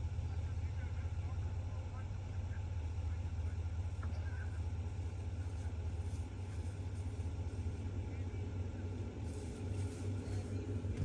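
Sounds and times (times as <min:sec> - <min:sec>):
heavy engine rumbling: 0:00.0 - 0:11.0.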